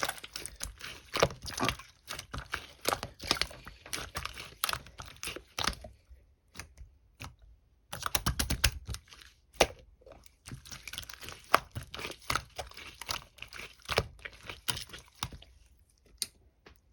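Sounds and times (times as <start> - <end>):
slime squishing with clicks and pops: 0.0 - 16.9.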